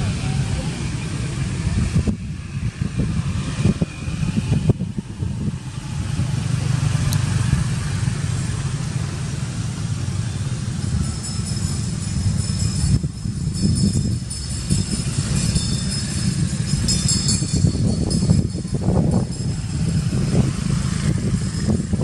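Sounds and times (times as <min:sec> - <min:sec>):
vehicle engine low rumble: 0:00.0 - 0:22.0.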